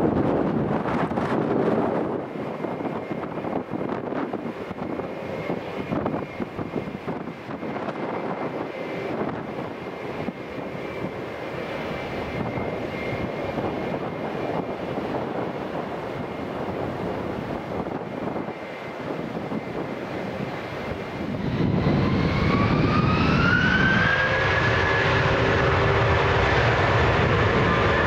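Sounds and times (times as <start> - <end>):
jet airliner landing: 0.0 - 28.0.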